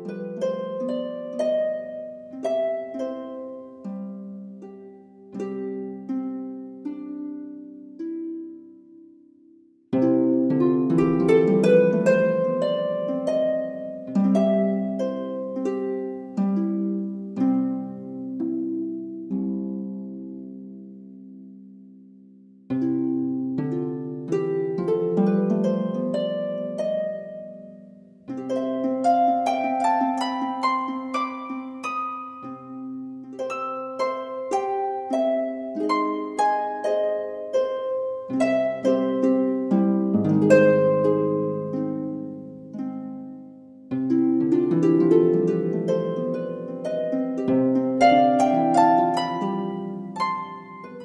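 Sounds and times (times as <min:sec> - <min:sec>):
plucked string music: 0:00.0 - 0:22.0, 0:22.7 - 0:51.0.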